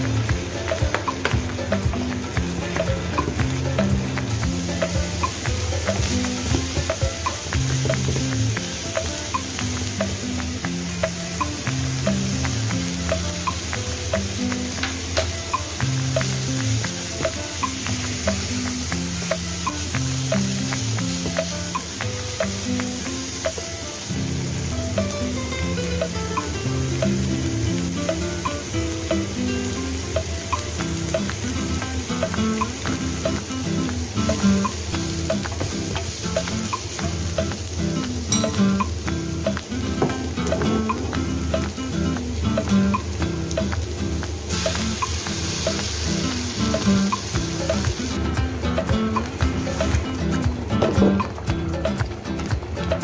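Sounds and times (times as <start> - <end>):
meat sizzling in a frying pan: 0.0 - 50.4
background music with beat: 0.0 - 53.0.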